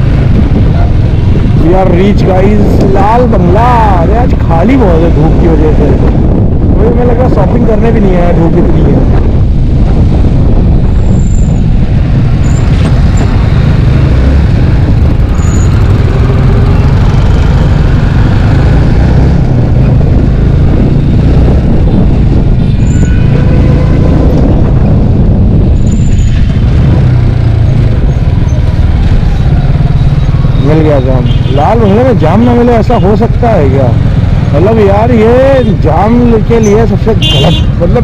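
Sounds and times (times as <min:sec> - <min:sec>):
motorcycle engine running: 0:00.0 - 0:38.0
road noise: 0:00.0 - 0:38.0.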